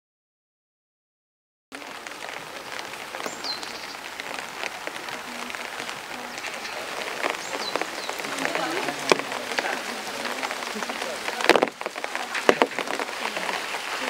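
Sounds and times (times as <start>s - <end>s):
rain pattering on stone: 1.7s - 14.0s
bird call: 2.0s - 14.0s.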